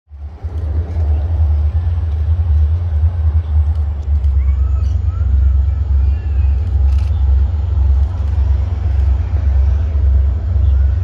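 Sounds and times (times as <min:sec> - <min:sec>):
diesel locomotives rumbling: 0:00.1 - 0:11.0.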